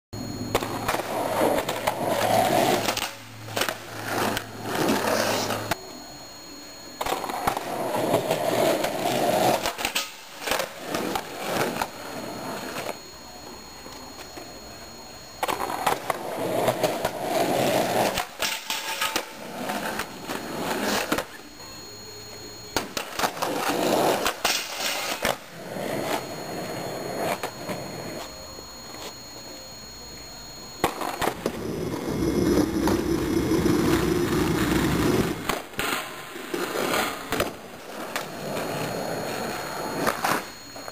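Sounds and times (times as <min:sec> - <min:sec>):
skateboard wheels rolling on concrete: 0:00.4 - 0:05.8, 0:07.0 - 0:14.2, 0:15.4 - 0:21.4, 0:22.7 - 0:29.1, 0:30.8 - 0:40.9.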